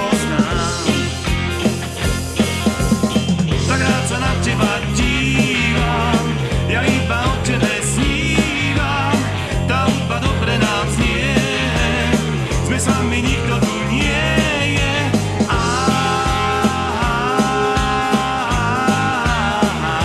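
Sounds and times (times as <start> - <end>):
bass line: 0.0 - 20.0
drum beat: 0.0 - 20.0.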